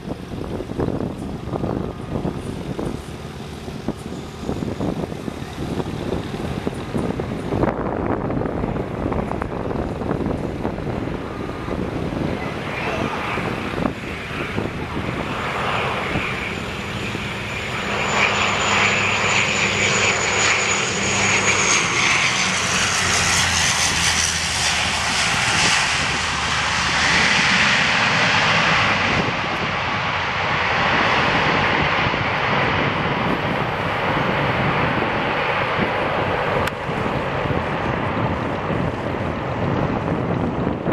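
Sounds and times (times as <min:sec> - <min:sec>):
turboprop plane landing: 0:00.0 - 0:40.9.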